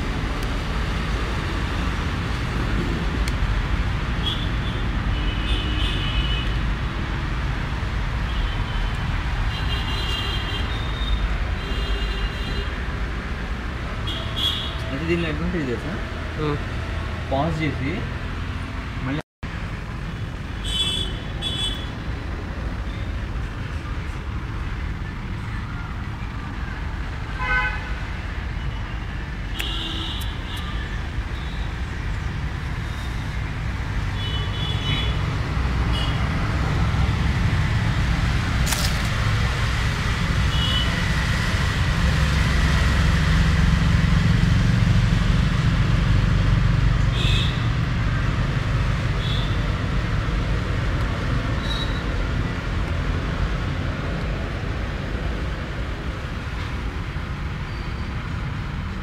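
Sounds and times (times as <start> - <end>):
road traffic rumbling: 0.0 - 59.0.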